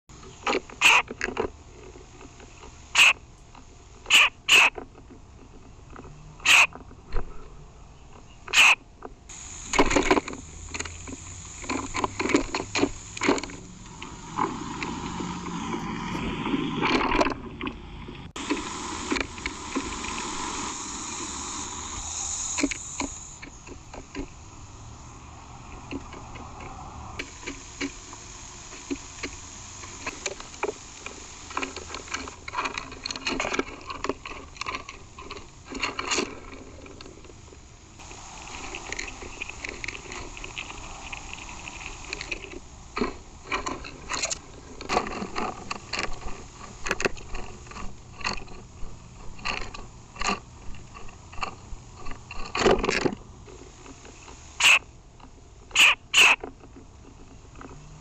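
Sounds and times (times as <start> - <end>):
birds scuffling and rustling: 0.1 - 58.0.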